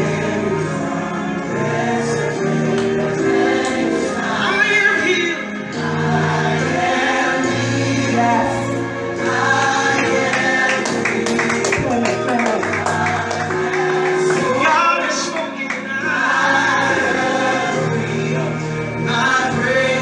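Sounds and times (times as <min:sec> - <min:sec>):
band accompaniment: 0:00.0 - 0:20.0
choir singing: 0:00.0 - 0:20.0.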